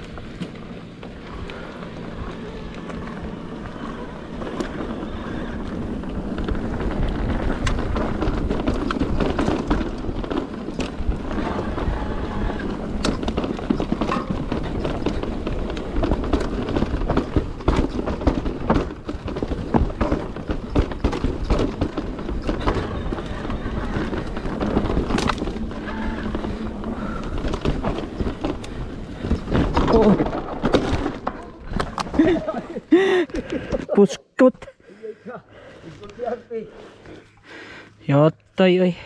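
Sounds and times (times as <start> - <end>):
bike tyres rumbling over rocks: 0.0 - 33.8
bike rattling: 0.0 - 34.0.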